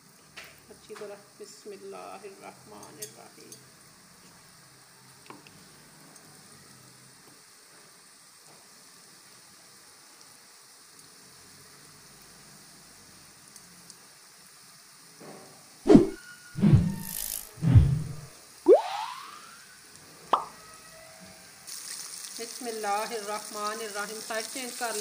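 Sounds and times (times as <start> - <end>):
chicken deep-frying in oil: 0.0 - 17.4, 18.6 - 25.0.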